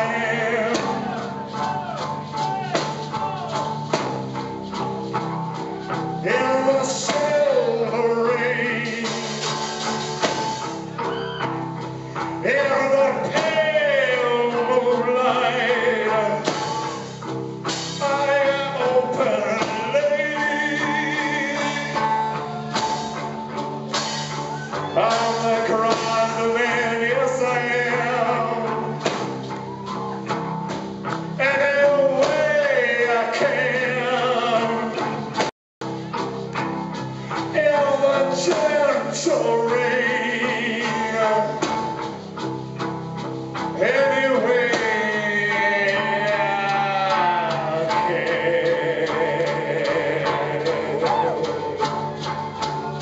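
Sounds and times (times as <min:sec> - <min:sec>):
man singing lead vocal: 0:00.0 - 0:03.7, 0:05.5 - 0:23.3, 0:24.4 - 0:29.4, 0:31.2 - 0:35.5, 0:37.2 - 0:42.2, 0:43.6 - 0:53.0
live rock band playing: 0:00.0 - 0:53.0.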